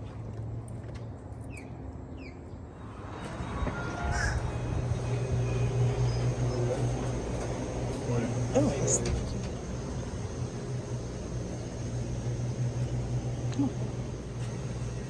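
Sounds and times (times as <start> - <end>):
low steady hum: 2.6 - 15.0.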